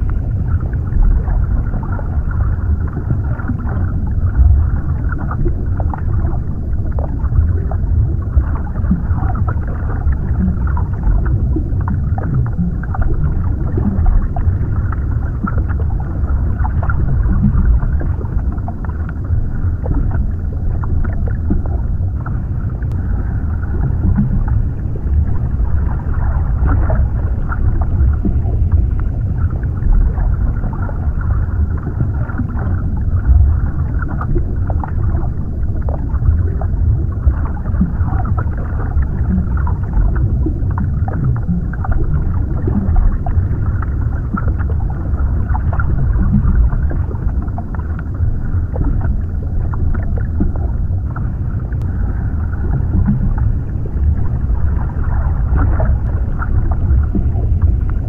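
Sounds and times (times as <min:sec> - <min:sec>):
bubbling: 0:00.0 - 0:58.0
muffled underwater wash: 0:00.0 - 0:58.0.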